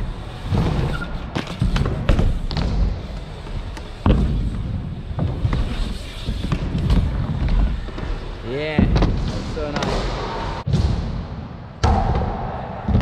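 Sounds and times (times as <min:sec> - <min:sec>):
wheels rolling over ramps: 0:00.0 - 0:10.6.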